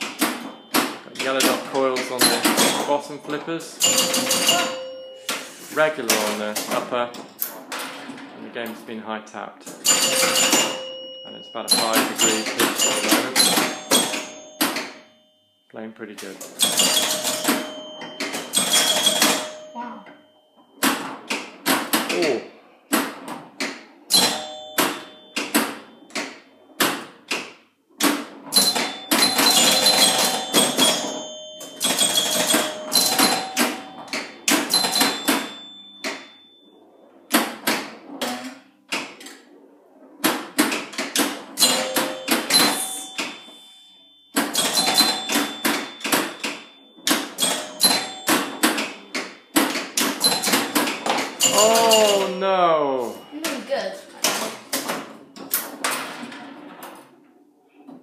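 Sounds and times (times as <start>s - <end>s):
pinball scoring chimes: 0.0s - 8.4s, 9.6s - 57.9s
pinball flippers and bumpers clacking: 0.0s - 8.9s, 9.6s - 58.0s.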